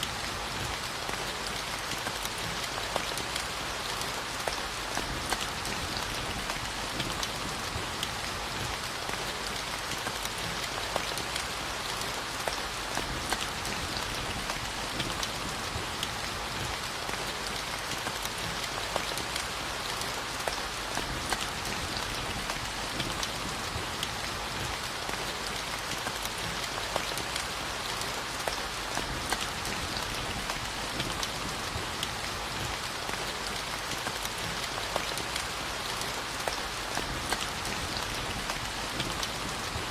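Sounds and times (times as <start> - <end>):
steady rainfall: 0.0 - 39.9
raindrops ticking: 2.0 - 39.9.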